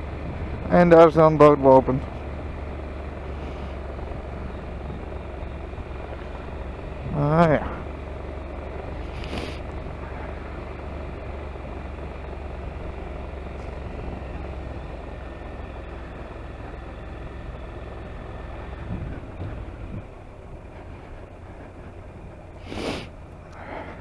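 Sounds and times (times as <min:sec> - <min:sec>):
vehicle engine running: 0:00.0 - 0:24.0
wind and road noise: 0:00.0 - 0:24.0.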